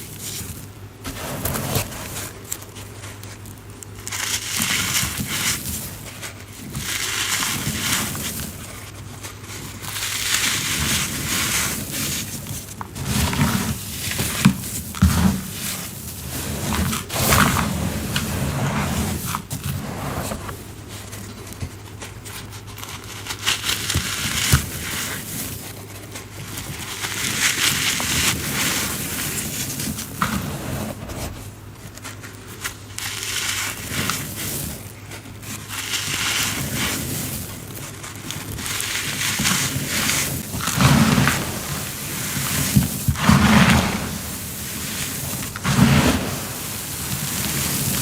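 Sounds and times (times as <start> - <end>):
cornstarch being crunched: 0.0 - 19.7, 20.5 - 30.3, 31.8 - 48.0.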